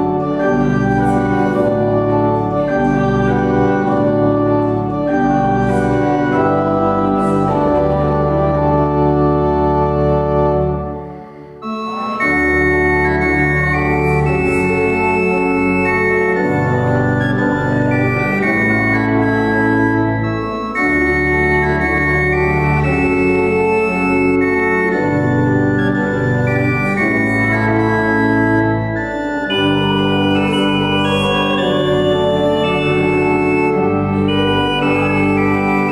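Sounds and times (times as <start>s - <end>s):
church organ playing slow chords: 0.0s - 35.9s.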